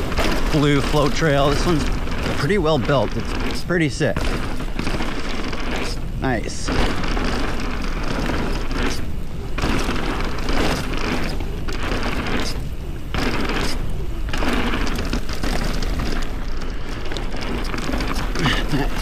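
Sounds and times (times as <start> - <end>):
bike rattling: 0.0 - 19.0
bike tyres rolling over dirt: 0.0 - 19.0.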